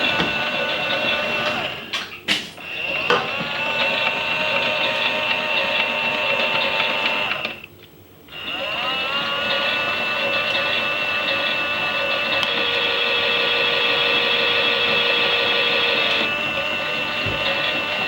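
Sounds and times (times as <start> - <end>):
toy washing machine motor whining: 0.0 - 7.7, 8.3 - 18.0
motor clicks: 0.0 - 18.0.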